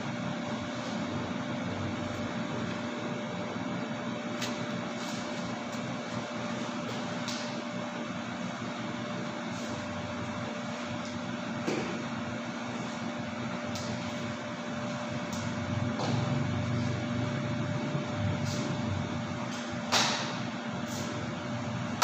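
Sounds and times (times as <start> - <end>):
mechanical hum and hiss: 0.0 - 22.0.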